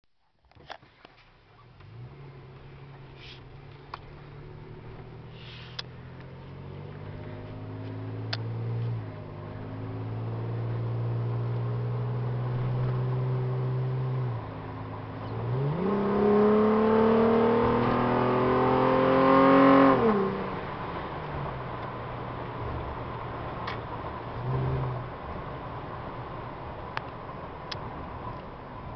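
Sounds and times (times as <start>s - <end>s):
truck engine accelerating: 1.8s - 25.4s.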